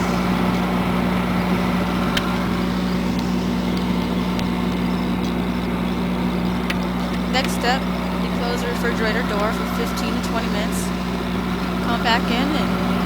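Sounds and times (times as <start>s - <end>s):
refrigerator electrical hum: 0.0s - 13.0s.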